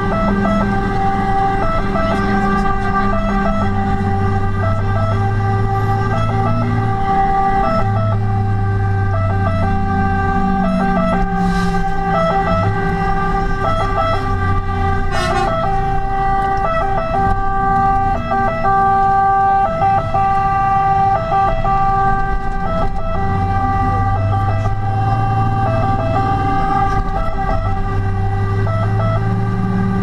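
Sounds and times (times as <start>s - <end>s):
fire engine siren: 0.0s - 30.0s
truck engine rumbling: 0.0s - 30.0s.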